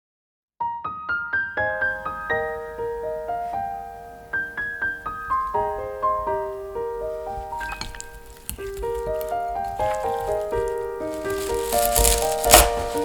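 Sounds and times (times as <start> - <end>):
gentle piano melody: 0.6 - 13.0.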